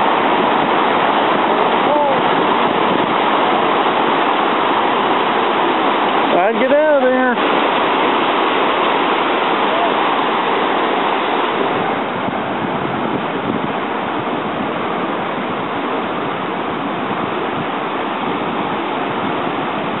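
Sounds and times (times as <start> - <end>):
floodwater gushing: 0.0 - 20.0.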